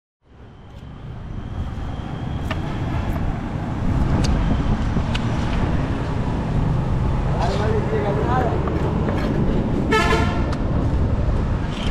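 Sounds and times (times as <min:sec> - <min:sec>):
road traffic rumble: 0:00.2 - 0:11.9.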